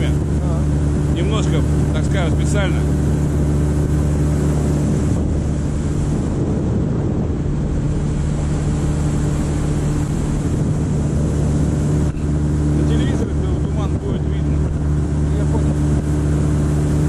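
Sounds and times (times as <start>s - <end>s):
hiss of wind and water: 0.0s - 17.0s
motorboat engine running: 0.0s - 17.0s.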